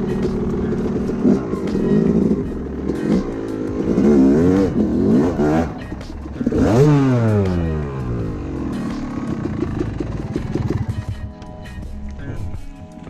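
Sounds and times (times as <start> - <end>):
dirt bike engine revving: 0.0 - 11.3.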